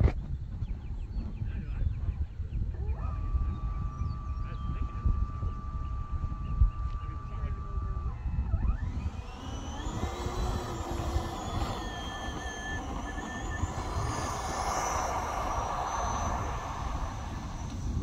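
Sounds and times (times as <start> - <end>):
wind on microphone: 0.0 - 18.0
electric ducted fan whine: 1.4 - 18.0.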